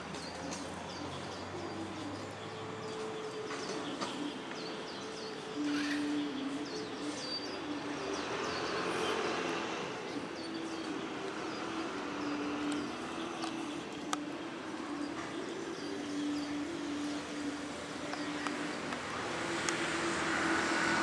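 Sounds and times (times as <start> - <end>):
birds chirping: 0.0 - 21.0
city traffic hum: 0.0 - 21.0.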